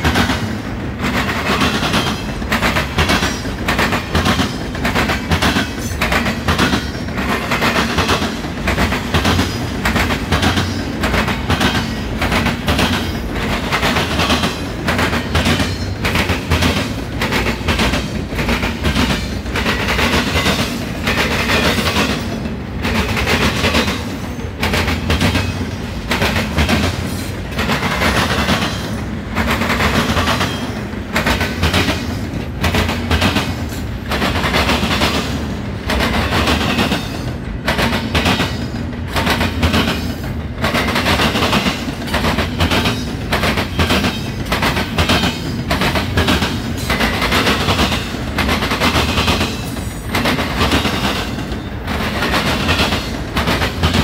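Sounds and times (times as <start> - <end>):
low train rumble: 0.0 - 54.0
train wheels clattering: 0.0 - 54.0.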